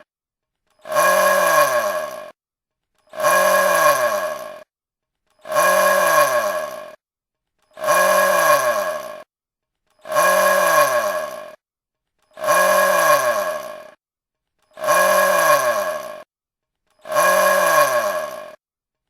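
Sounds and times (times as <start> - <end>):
small drill motor whirring: 0.0 - 19.0.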